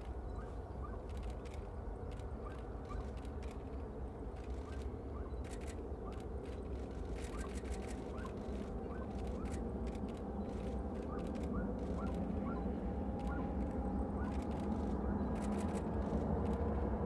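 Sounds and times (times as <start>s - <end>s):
distant jet engine rumble: 0.0s - 17.0s.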